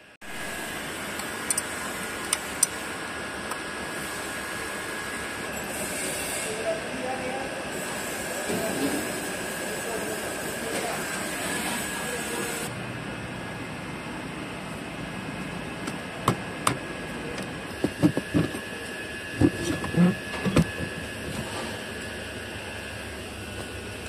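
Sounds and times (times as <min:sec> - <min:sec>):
workshop hum: 0:00.0 - 0:24.0.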